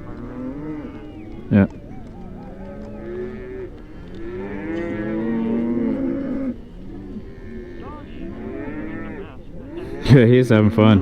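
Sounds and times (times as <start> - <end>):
cattle mooing: 0.0 - 10.6.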